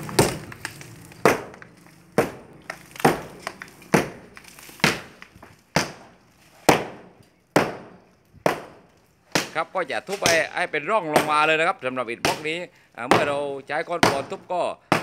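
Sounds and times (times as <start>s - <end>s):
sledgehammer striking concrete block: 0.0s - 11.6s, 12.2s - 13.4s, 14.0s - 15.0s.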